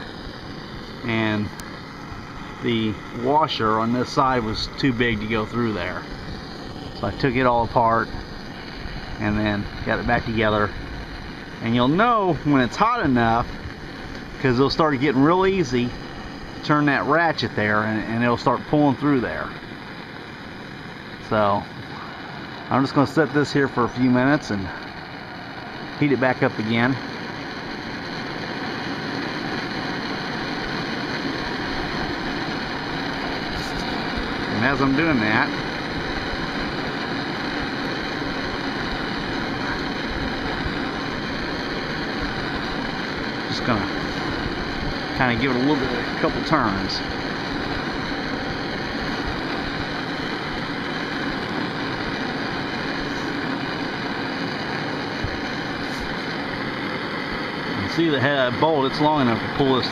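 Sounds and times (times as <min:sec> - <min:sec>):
gas torch hissing: 0:00.0 - 0:59.9.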